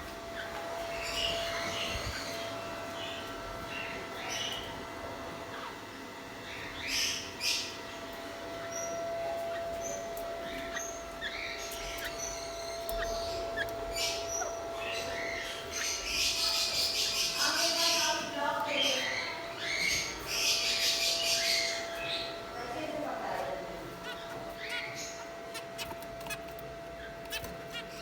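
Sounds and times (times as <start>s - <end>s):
budgerigars chirping: 0.4s - 4.7s, 8.6s - 28.0s.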